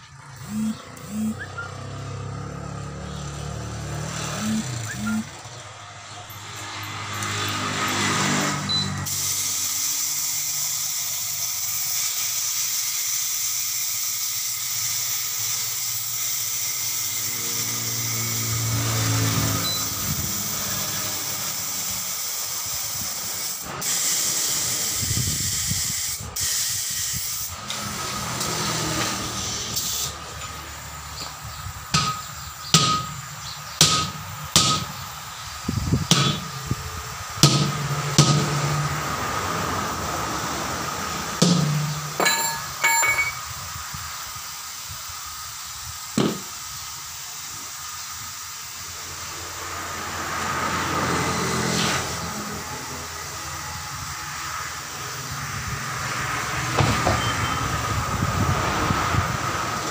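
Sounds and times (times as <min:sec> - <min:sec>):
compressed air hissing: 0:09.0 - 0:42.6, 0:43.4 - 0:59.9.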